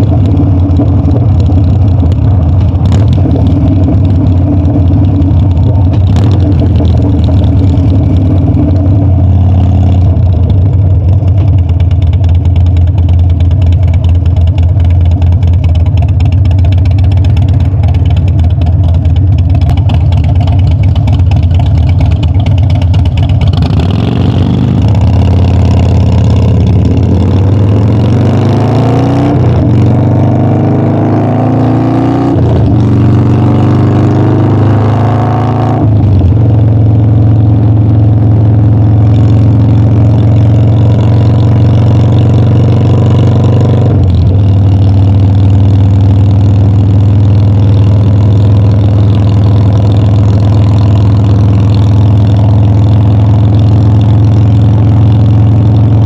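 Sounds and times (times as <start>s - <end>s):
motorcycle engine and exhaust: 0.0s - 56.0s.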